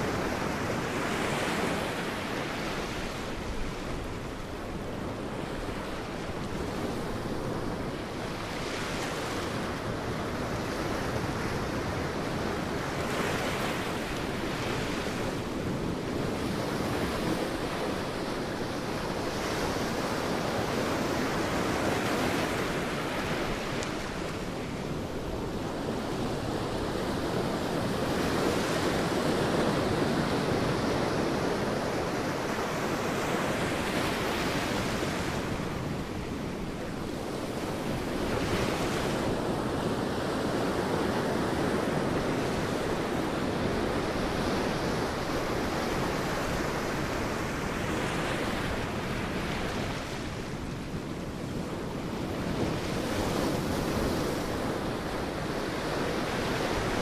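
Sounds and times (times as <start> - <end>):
sea waves breaking on a beach: 0.0 - 57.0
wind: 0.0 - 57.0.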